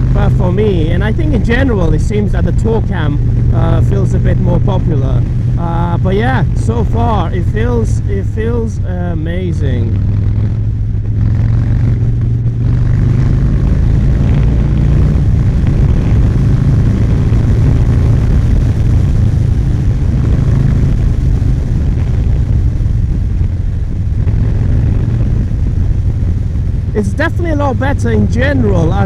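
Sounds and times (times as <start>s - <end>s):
motorcycle engine running: 0.0s - 29.0s
wind noise: 0.0s - 29.0s.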